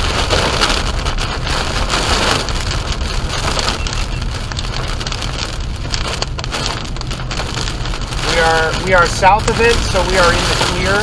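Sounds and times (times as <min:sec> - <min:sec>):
low rumble: 0:00.0 - 0:11.0
rain pelting a car: 0:00.0 - 0:11.0.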